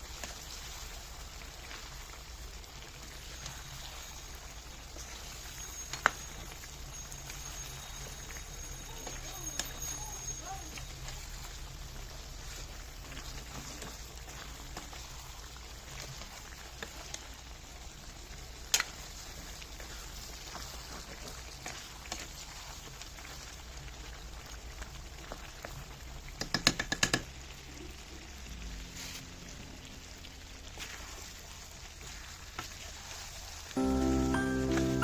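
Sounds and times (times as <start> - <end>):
gravy sizzling in a pan: 0.0 - 35.0.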